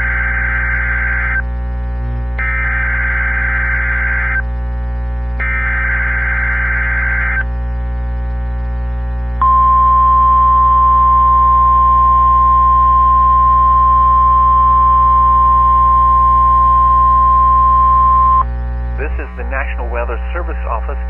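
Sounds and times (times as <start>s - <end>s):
steady warning alarm tone: 0.0s - 8.3s, 9.4s - 21.0s
low hum: 0.0s - 21.0s.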